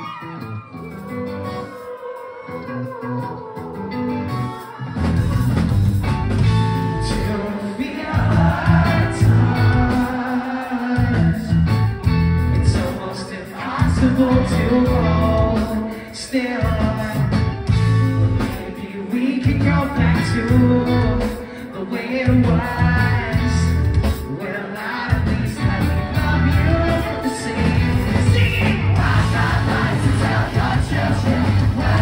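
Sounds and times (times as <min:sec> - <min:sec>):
person singing: 0:00.0 - 0:05.7, 0:06.5 - 0:11.9, 0:12.5 - 0:32.0
drums: 0:00.0 - 0:32.0
electric guitar: 0:00.0 - 0:32.0
bass guitar: 0:02.5 - 0:10.2, 0:10.9 - 0:18.8, 0:19.4 - 0:24.4, 0:25.1 - 0:32.0.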